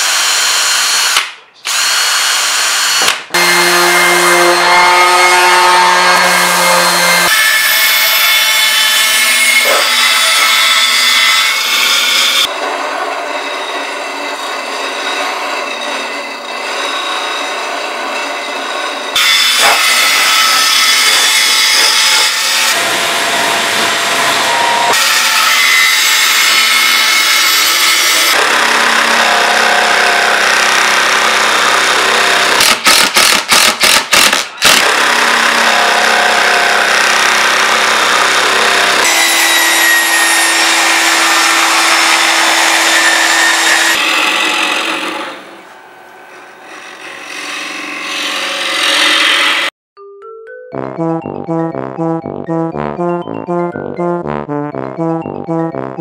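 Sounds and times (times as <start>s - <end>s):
band saw cutting wood: 0.0s - 49.8s
table saw: 0.0s - 49.8s.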